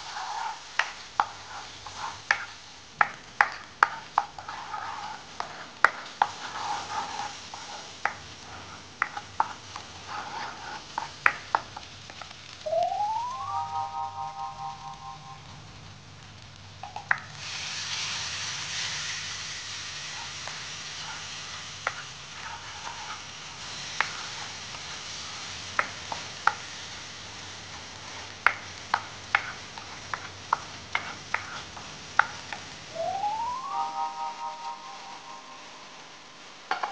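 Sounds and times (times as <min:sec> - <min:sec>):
spatula tapping and scraping wok: 0:00.0 - 0:12.6, 0:16.3 - 0:32.9, 0:36.4 - 0:36.9
water sizzling in hot pan: 0:00.0 - 0:36.9.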